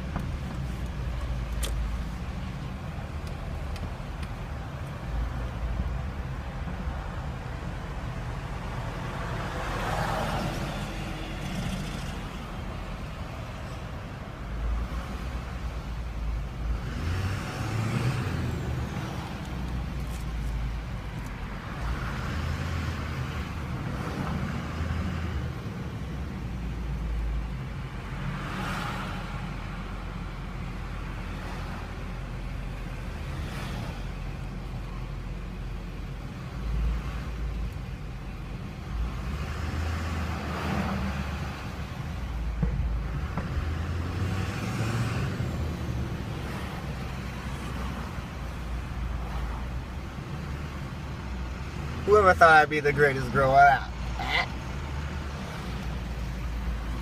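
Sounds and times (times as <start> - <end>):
diesel truck engine rumble: 0.0 - 57.0
passing traffic: 0.0 - 57.0.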